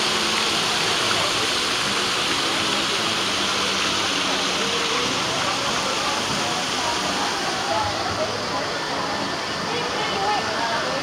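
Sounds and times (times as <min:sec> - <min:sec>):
fountain jets splashing into pool: 0:00.0 - 0:11.0.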